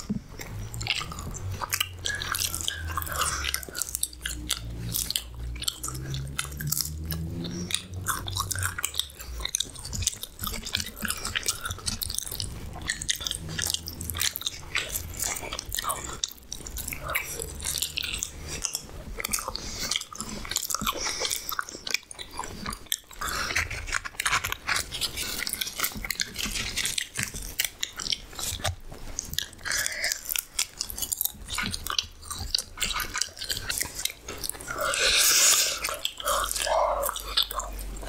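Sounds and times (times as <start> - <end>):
close chewing and biting: 0.0 - 38.0
wet mouth clicks: 0.0 - 38.0.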